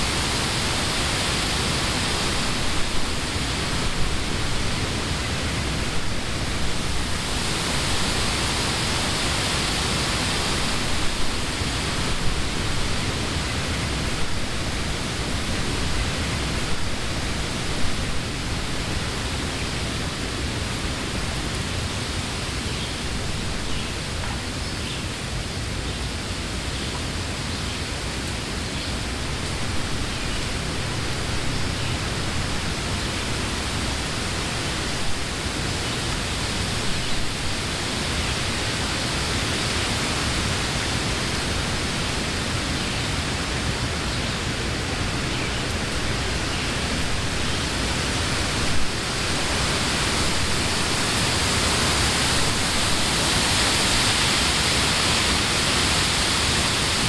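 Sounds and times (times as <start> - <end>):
wind rustling leaves and branches: 0.0 - 57.0.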